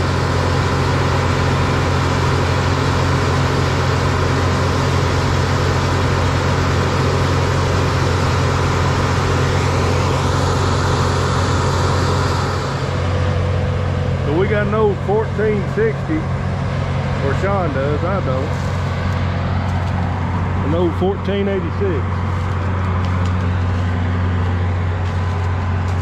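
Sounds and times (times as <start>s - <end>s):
combine harvester running: 0.0s - 26.0s
tractor engine: 0.0s - 26.0s.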